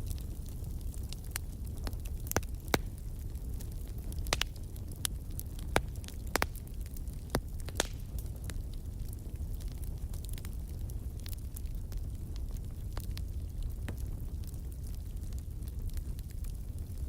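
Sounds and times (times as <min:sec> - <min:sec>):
fire crackling: 0:00.0 - 0:17.0
low rumble of burning: 0:00.0 - 0:17.0.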